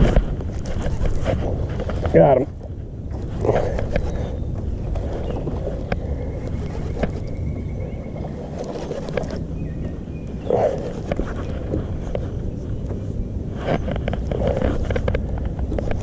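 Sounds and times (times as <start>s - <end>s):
boat and rod handling rumble: 0.0s - 16.0s.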